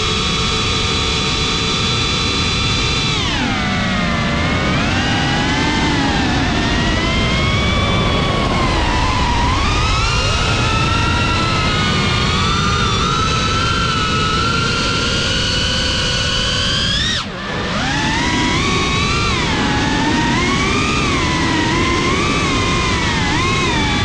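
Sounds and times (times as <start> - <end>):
drone motors whining: 0.0 - 24.0
rumbling rush of air: 3.5 - 24.0.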